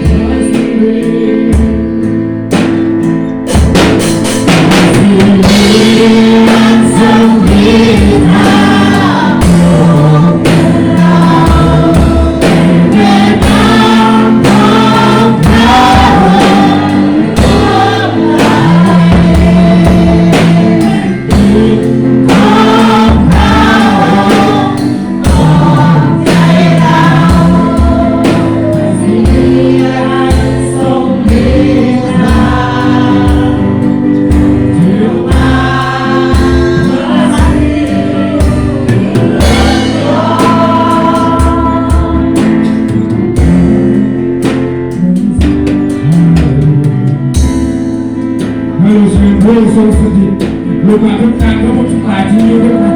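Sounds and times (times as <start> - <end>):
group singing praise song: 0.0 - 2.8, 3.5 - 46.6, 48.7 - 52.9
band with bass and drums: 0.0 - 52.9.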